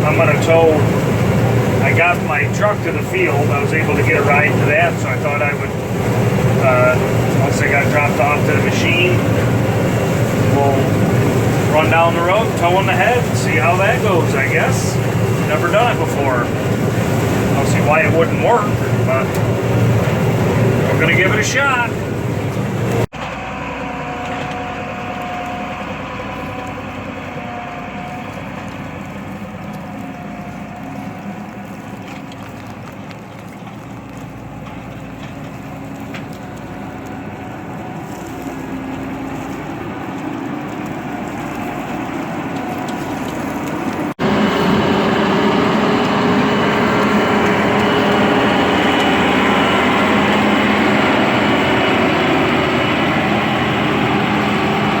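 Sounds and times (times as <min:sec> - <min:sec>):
combine diesel engine running: 0:00.0 - 0:55.0.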